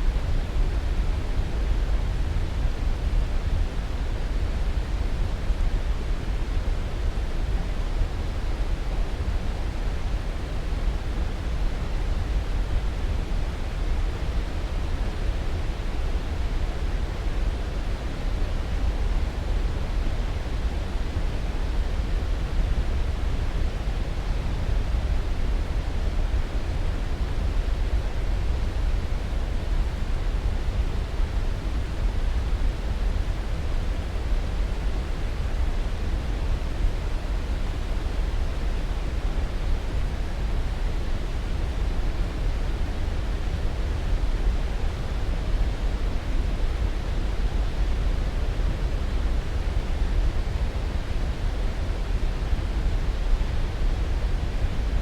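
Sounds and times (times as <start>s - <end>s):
steady pink noise: 0.0s - 55.0s.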